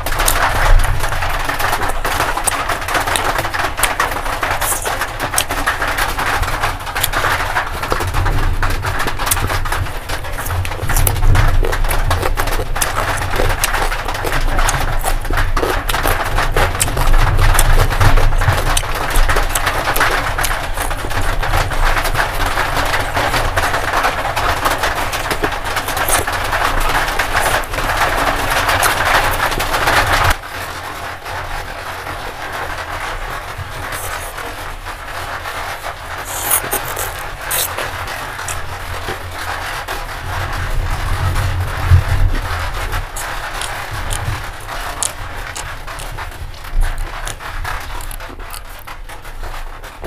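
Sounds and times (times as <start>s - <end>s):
person chewing food: 0.1s - 30.4s, 33.3s - 34.7s, 35.5s - 40.0s, 41.9s - 49.2s.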